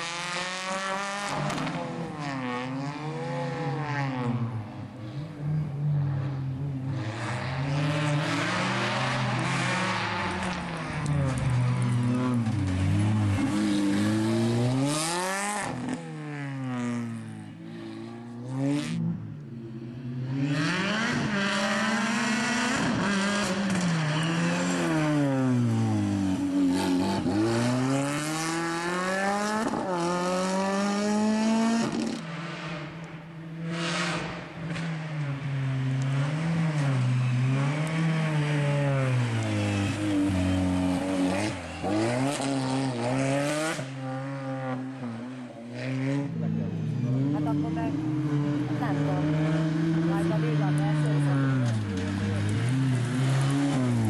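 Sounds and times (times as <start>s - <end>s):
car engine revving: 0.0s - 54.0s
tyre and road noise: 0.0s - 54.0s.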